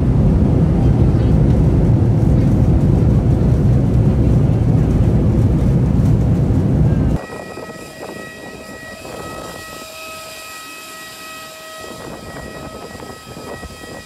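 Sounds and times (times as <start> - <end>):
airliner high whine: 0.0 - 14.0.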